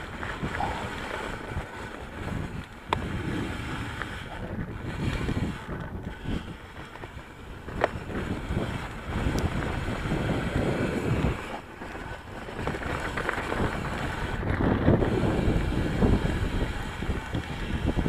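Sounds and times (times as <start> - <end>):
bike tyres rumbling over dirt trail: 0.0 - 18.0
wind on microphone: 0.0 - 18.0.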